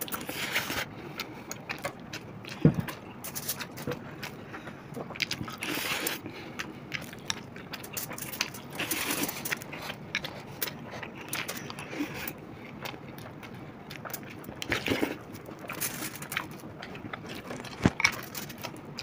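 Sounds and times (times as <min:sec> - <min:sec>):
people chewing: 0:00.0 - 0:19.0.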